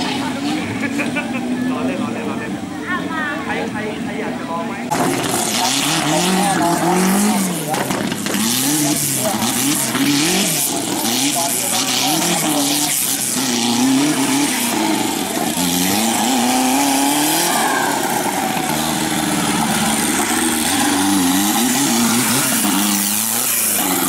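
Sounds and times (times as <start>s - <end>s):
engine revving hard: 0.0s - 2.4s, 4.8s - 24.0s.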